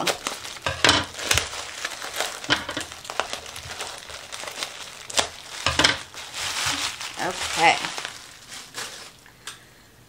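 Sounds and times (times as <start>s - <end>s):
bubble wrap crinkling: 0.0s - 9.4s.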